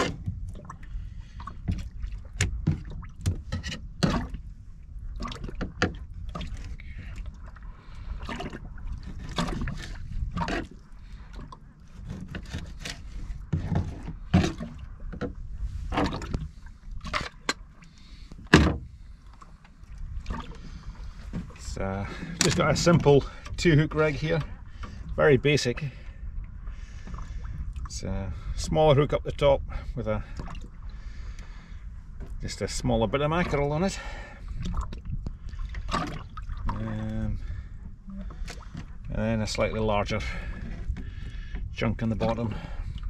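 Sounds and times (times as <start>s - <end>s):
steady low rumble: 0.0s - 12.0s, 12.7s - 43.0s.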